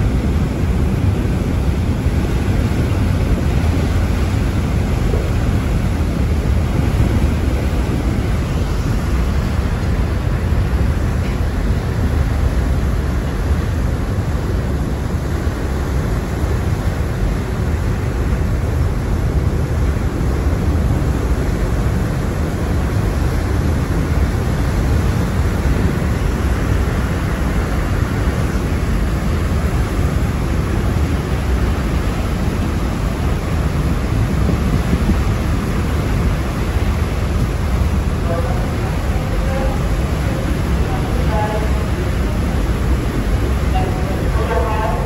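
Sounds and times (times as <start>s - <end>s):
ship wake rushing along hull: 0.0s - 45.0s
wind on microphone: 0.0s - 45.0s.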